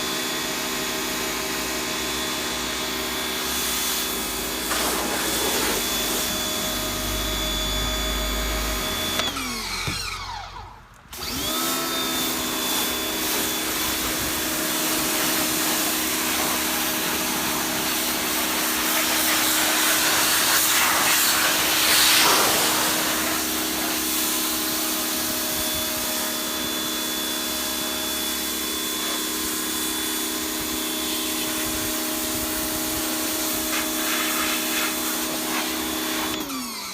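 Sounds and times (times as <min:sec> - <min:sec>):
pressure washer motor humming: 0:00.0 - 0:36.9.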